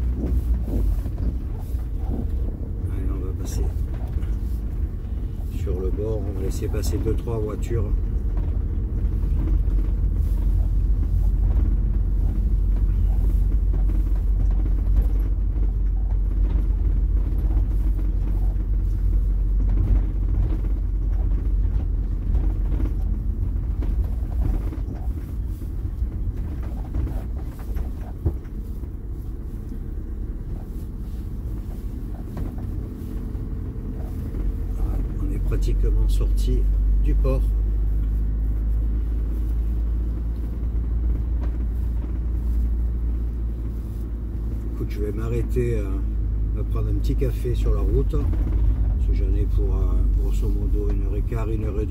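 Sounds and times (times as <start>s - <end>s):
engine and road rumble: 0.0s - 51.9s.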